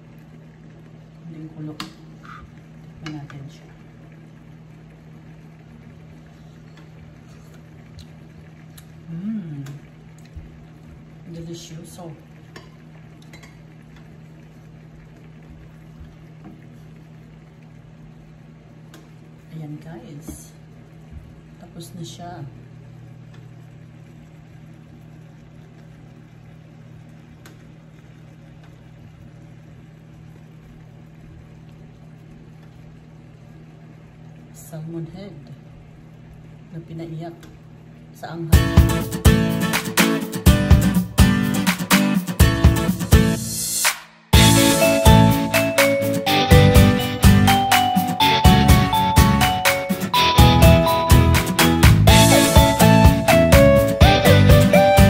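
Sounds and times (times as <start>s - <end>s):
pan simmering: 0.0s - 36.8s, 37.5s - 43.8s, 44.4s - 55.0s
cooktop electric hum: 0.0s - 55.0s.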